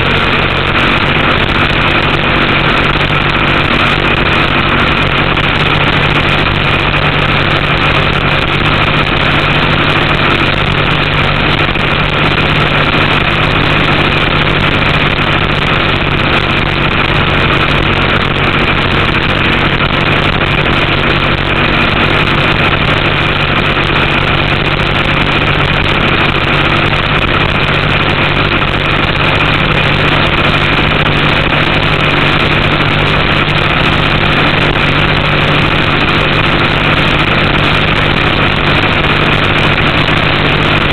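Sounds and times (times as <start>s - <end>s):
boat engine running loud: 0.0s - 40.9s.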